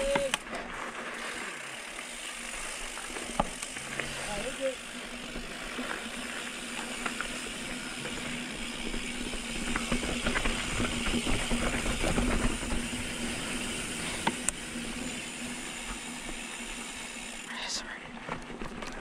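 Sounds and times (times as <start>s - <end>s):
bike rattling: 0.0s - 17.5s, 18.2s - 19.0s.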